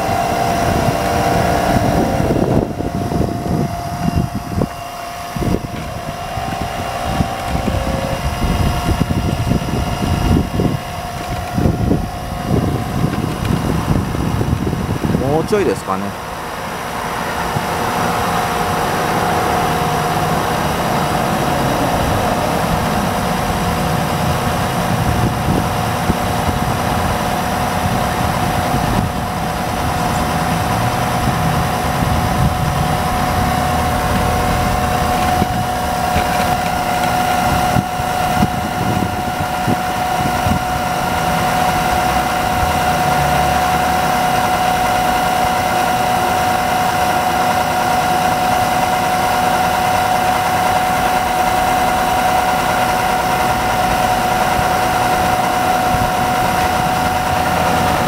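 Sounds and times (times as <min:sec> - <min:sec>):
electric pump whining: 0:00.0 - 0:58.0.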